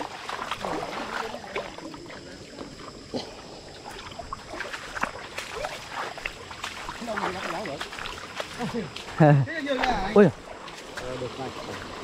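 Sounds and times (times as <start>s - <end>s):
feet wading and splashing: 0.0s - 12.0s
stream running water: 0.0s - 12.0s.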